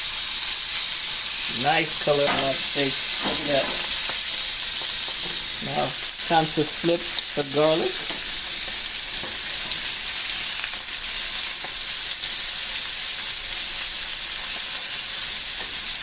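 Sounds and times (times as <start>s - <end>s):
shrimp sizzling in a pan: 0.0s - 16.0s.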